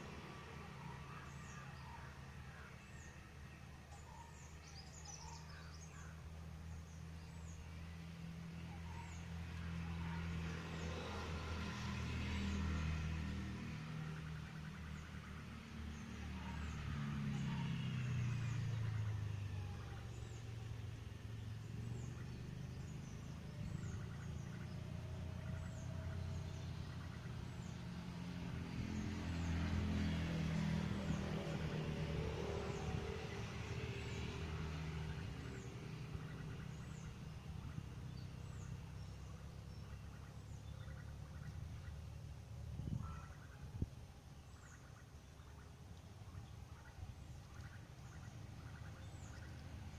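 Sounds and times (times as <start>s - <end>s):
road traffic rumble: 0.0s - 49.9s.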